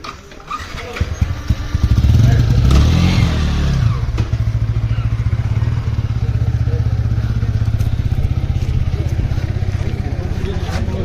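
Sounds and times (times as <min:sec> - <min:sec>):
motorcycle engine revving and idling: 0:00.6 - 0:11.0.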